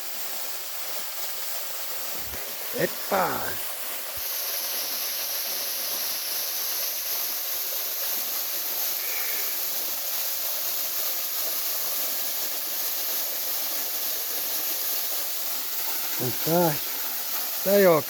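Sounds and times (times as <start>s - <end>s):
waterfall rushing: 2.1s - 18.0s.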